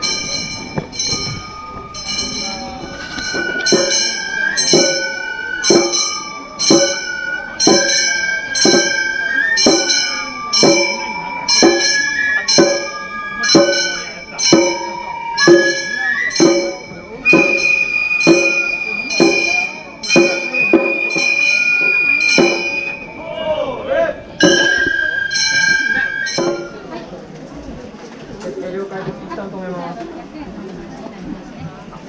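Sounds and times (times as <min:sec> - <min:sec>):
bamboo flute melody: 0:00.0 - 0:27.1.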